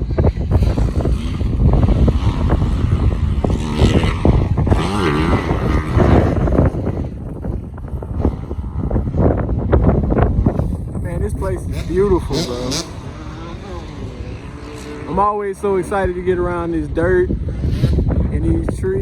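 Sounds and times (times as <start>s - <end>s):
dirt bike engine revving: 0.0s - 19.0s
wind buffeting microphone: 0.0s - 19.0s.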